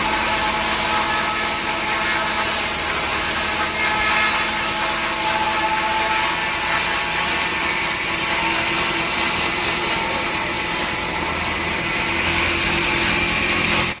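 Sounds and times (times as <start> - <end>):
high saw whine: 0.0 - 14.0
saw cutting through log: 0.0 - 14.0.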